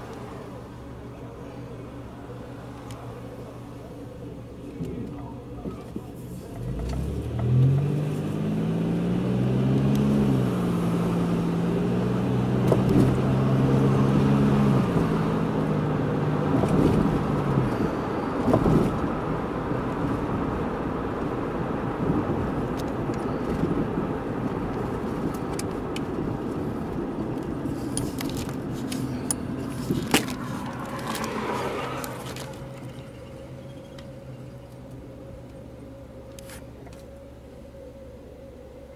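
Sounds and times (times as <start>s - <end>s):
car engine from inside cabin: 0.0s - 38.9s
road and tyre noise: 0.0s - 38.9s.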